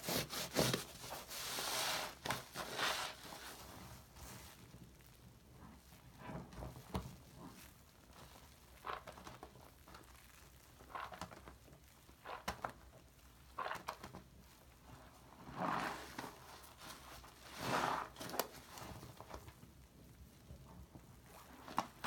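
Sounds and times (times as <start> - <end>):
wet sponge squishing foam: 0.0 - 22.0.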